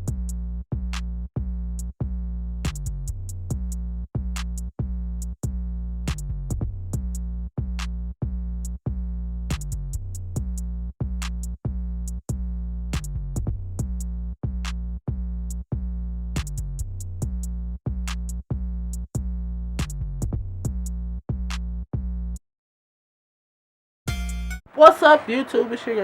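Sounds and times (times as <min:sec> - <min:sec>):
drum-machine bass: 0:00.0 - 0:22.4.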